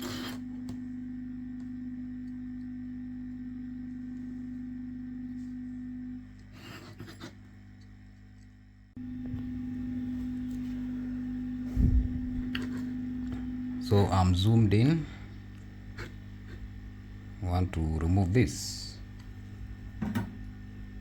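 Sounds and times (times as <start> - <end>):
blower electrical hum: 0.0 - 21.0.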